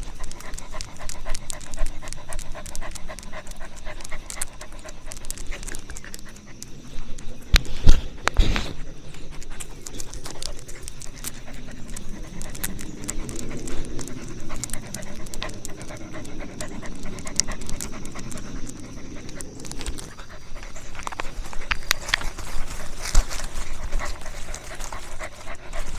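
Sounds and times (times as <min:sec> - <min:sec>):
dog panting: 0:00.0 - 0:25.9
light clicks: 0:00.0 - 0:25.9.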